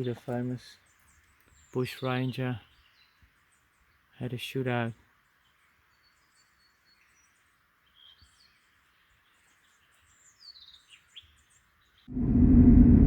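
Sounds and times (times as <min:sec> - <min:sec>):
quiet bush ambience: 0:00.0 - 0:13.0.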